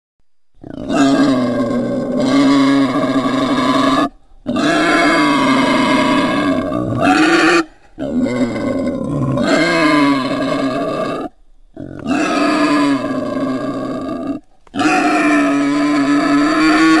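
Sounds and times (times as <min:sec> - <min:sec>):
wild boar calling: 0:00.6 - 0:17.0.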